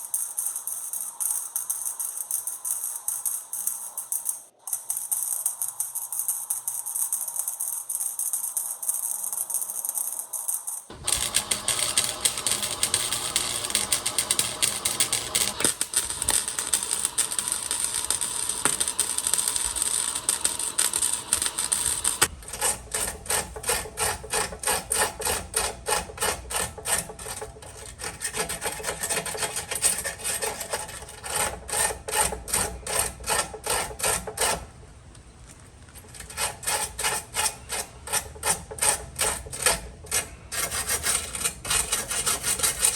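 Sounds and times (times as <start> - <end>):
tool scraping metal: 0.0 - 35.0, 36.0 - 42.9.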